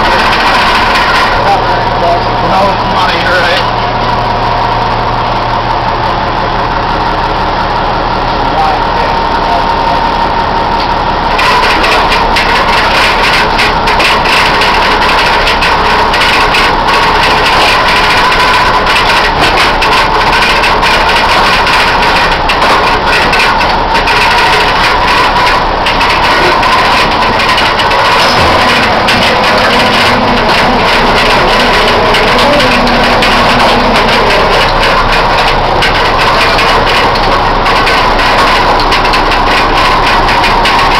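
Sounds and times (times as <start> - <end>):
boat engine and machinery running: 0.0 - 40.9
constant whine: 0.0 - 40.9
rattles and knocks: 0.0 - 40.9.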